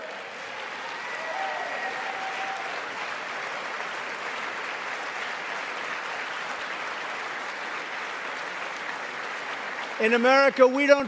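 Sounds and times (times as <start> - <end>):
large audience applauding: 0.0 - 11.0.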